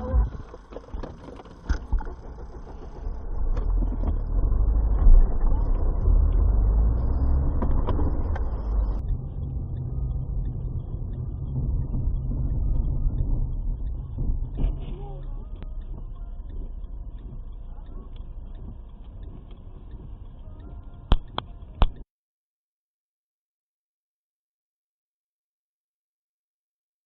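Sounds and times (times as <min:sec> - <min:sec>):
vehicle driving rumble: 0:00.0 - 0:22.0.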